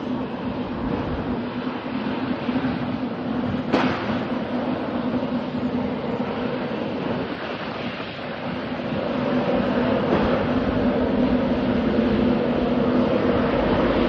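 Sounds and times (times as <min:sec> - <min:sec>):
electric train humming and rumbling: 0:00.0 - 0:14.0.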